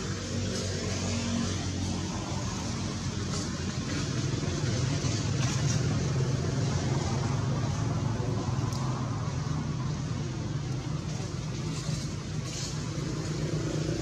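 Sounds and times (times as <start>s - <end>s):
broad background noise: 0.0s - 14.0s
vehicle engine rumble: 0.0s - 14.0s.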